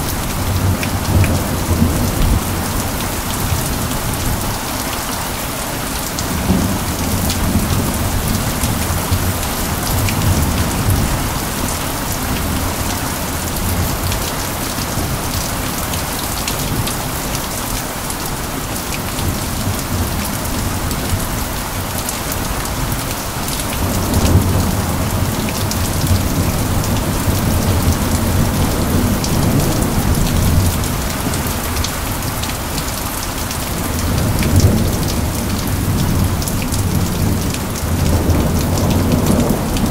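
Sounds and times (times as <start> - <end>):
rain falling with drop hits: 0.0 - 39.9.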